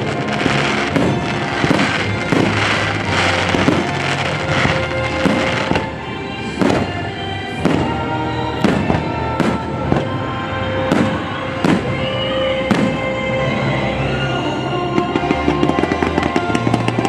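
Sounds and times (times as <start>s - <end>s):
fireworks bangs: 0.0s - 13.3s, 14.9s - 17.0s
soundtrack music with held notes: 0.0s - 17.0s.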